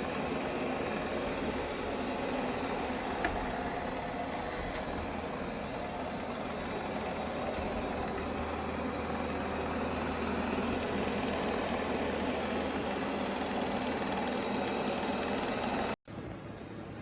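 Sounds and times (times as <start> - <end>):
robot vacuum motor whir: 0.0 - 16.0.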